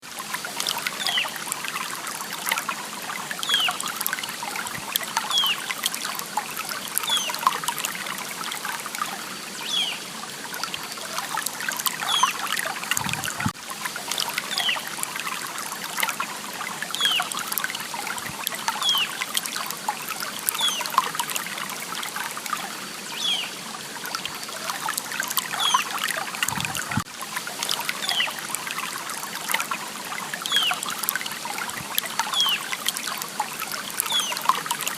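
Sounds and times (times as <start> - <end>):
stream trickling and bubbling: 0.0 - 34.9.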